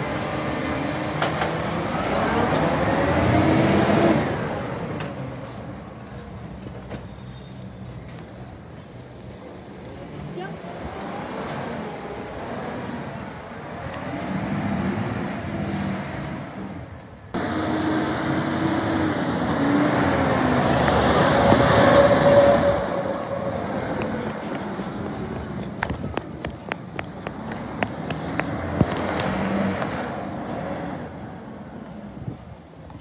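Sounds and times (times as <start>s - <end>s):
truck whine passing: 0.0s - 7.0s, 7.6s - 26.5s, 27.2s - 32.8s
truck diesel engine: 0.0s - 33.0s.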